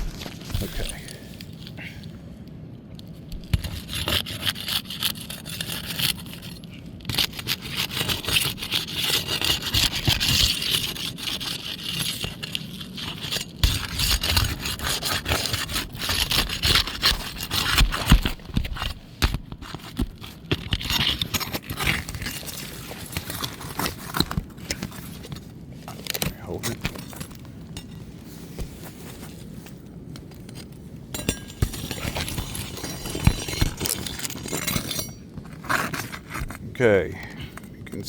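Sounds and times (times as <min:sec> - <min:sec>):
pry bar scraping roof shingles: 0:03.3 - 0:29.5, 0:30.2 - 0:36.7.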